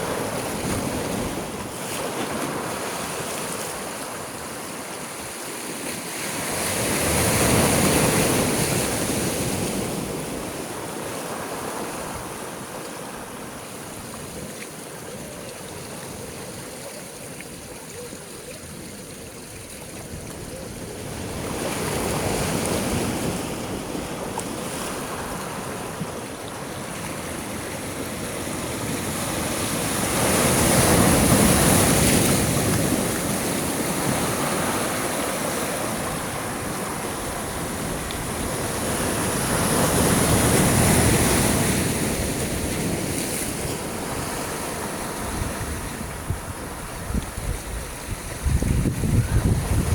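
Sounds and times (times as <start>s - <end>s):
sea waves breaking: 0.0s - 49.9s.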